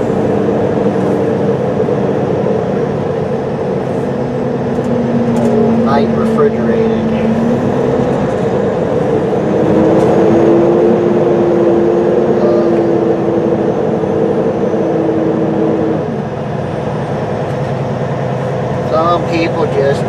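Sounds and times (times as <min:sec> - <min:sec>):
truck diesel engine drone: 0:00.0 - 0:20.0.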